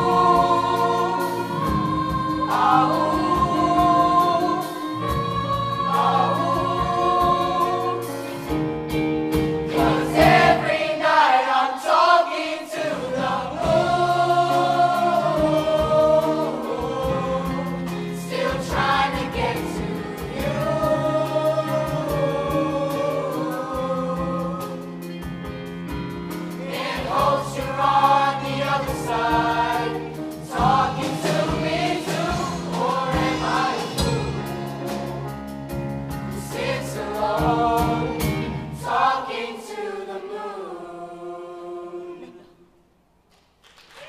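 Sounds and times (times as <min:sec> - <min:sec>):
live band with drums and bass: 0:00.0 - 0:10.6, 0:13.2 - 0:38.8
choir singing in parts: 0:00.0 - 0:25.1, 0:26.5 - 0:35.5, 0:36.3 - 0:42.9.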